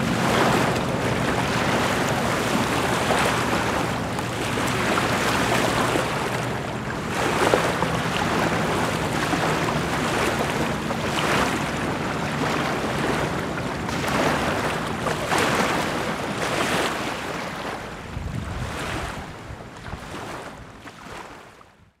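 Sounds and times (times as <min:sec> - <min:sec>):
lake water: 0:00.0 - 0:22.0
wind: 0:00.0 - 0:22.0.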